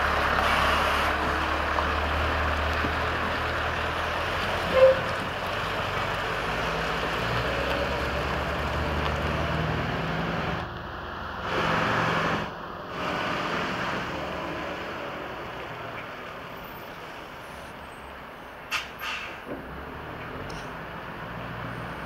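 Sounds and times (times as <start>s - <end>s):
lorry diesel engine running: 0.0s - 22.0s.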